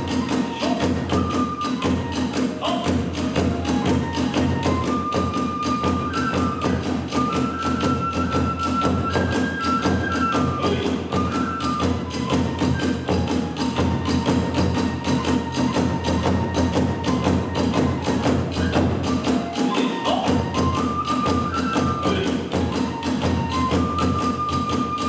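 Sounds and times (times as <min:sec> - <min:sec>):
bamboo flute melody: 0:00.0 - 0:25.0.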